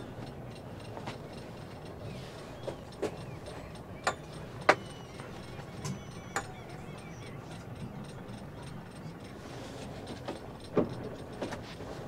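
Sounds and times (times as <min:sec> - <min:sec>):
rigging clicking and creaking: 0:00.1 - 0:12.0.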